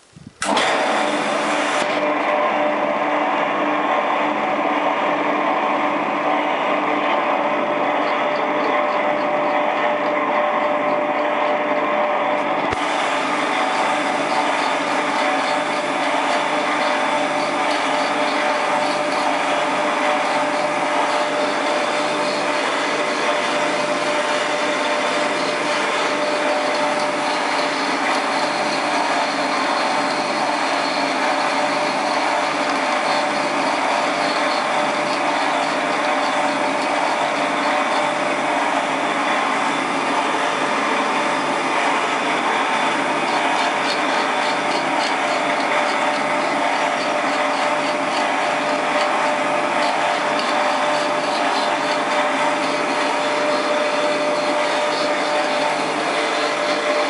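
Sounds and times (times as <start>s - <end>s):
lathe motor whining: 0.4s - 57.0s.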